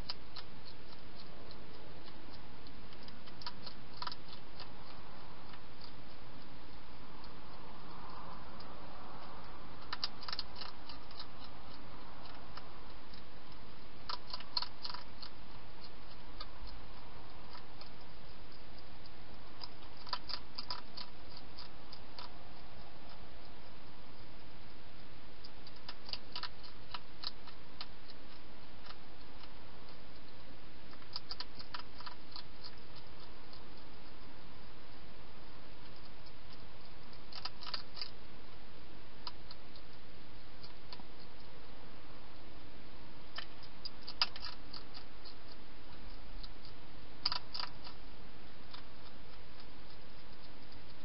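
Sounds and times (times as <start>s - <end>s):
hedgehog crunching food: 0.0s - 51.0s
steady hiss: 0.0s - 51.0s.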